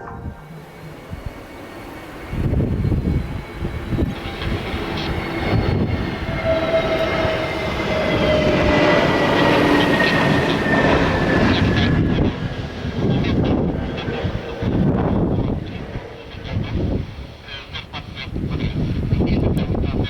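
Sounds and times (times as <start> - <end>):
jet engine whine: 0.0 - 20.0
wind buffeting microphone: 0.0 - 20.0.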